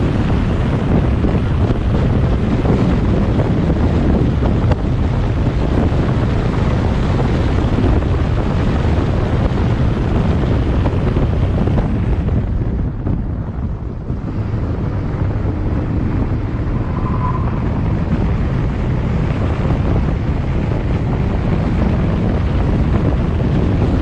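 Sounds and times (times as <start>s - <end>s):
road noise rumble: 0.0s - 24.0s
wind rushing over microphone: 0.0s - 24.0s.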